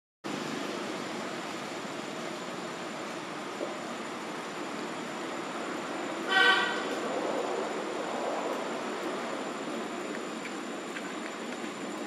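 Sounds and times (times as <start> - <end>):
background hiss and rumble: 0.3 - 12.0.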